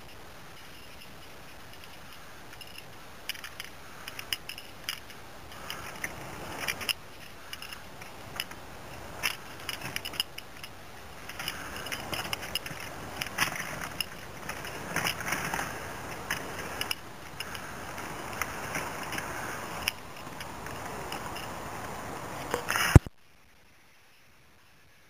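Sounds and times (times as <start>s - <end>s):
climbing gear clinks and scrapes: 0.0s - 21.7s
faint steady hiss: 0.0s - 25.0s.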